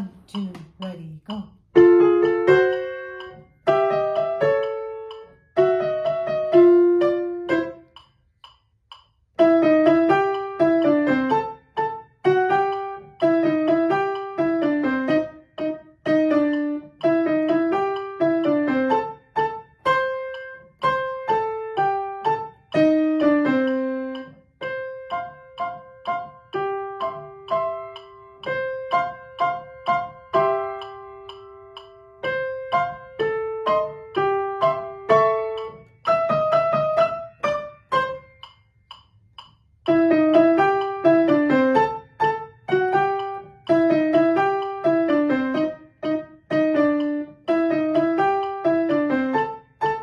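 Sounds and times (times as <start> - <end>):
ragtime grand piano: 1.7 - 7.9, 9.4 - 38.4, 39.9 - 50.0.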